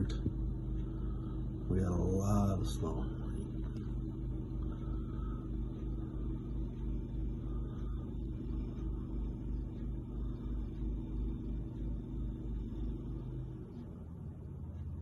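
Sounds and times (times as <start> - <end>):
snowblower engine running: 0.0 - 15.0.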